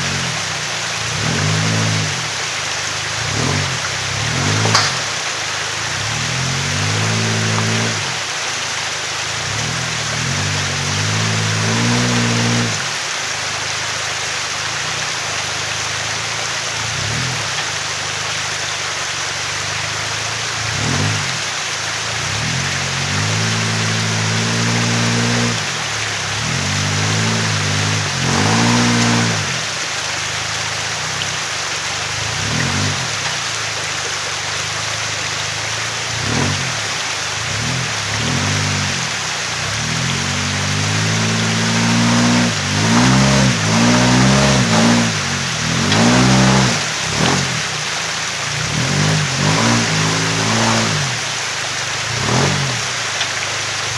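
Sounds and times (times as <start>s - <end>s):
truck engine revving: 0.0s - 13.1s, 14.8s - 17.7s, 19.5s - 53.9s
water rushing over rocks: 0.0s - 53.9s.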